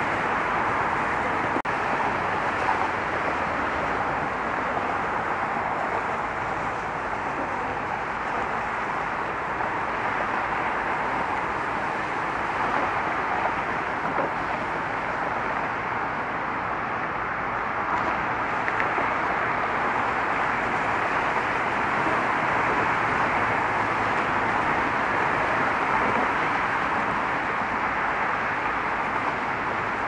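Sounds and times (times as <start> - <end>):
road traffic hiss and rumble: 0.0 - 30.0.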